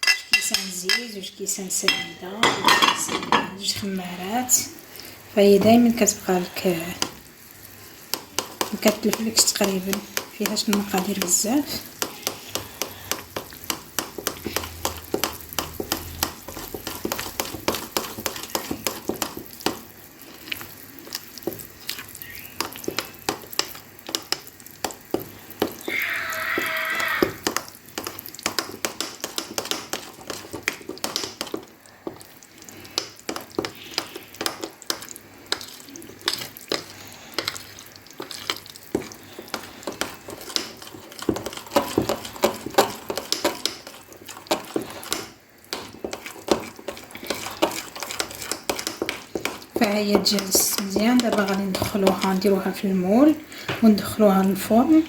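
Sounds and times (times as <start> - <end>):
utensil stirring batter in bowl: 1.8 - 55.0.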